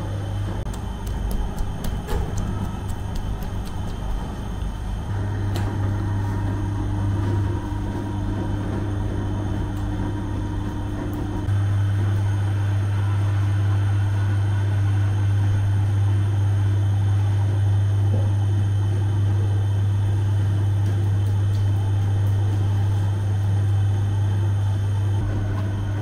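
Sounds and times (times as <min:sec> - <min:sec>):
bread oven humming: 0:00.0 - 0:26.0.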